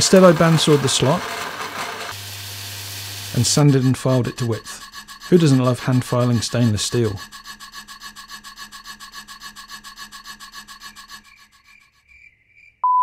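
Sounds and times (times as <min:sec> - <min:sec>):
hand file scraping steel: 0:00.0 - 0:11.6.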